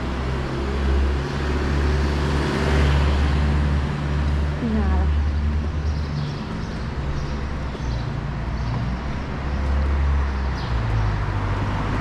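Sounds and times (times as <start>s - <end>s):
faint street hum: 0.0s - 12.0s
vehicle engine rumble: 0.0s - 12.0s.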